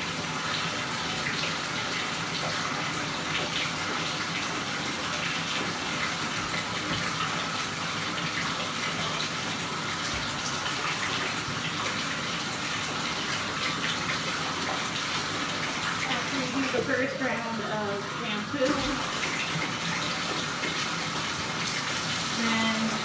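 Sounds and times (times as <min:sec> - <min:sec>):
tap running into bathtub: 0:00.0 - 0:17.6, 0:18.4 - 0:23.0.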